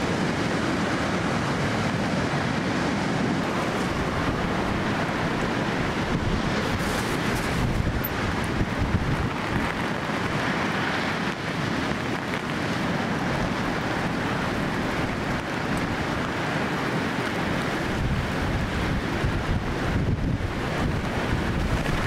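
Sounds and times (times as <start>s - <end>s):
heavy surf breaking: 0.0s - 22.0s
wind buffeting microphone: 0.0s - 22.0s.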